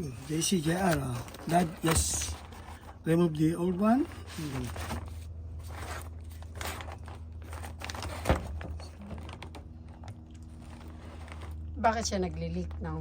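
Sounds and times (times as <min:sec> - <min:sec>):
hands handling engine parts: 0:00.0 - 0:11.6
steady low hum: 0:00.0 - 0:13.0.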